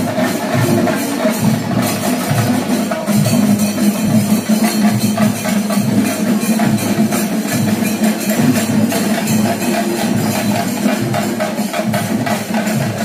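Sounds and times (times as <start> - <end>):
drums and cymbals beat: 0.0 - 13.0.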